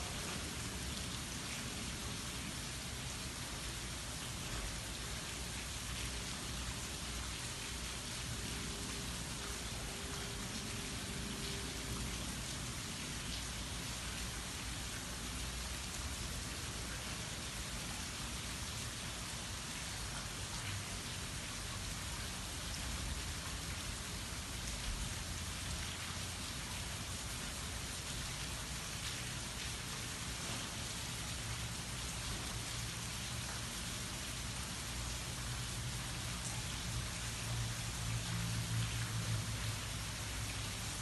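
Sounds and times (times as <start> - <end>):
rain falling: 0.0 - 41.0.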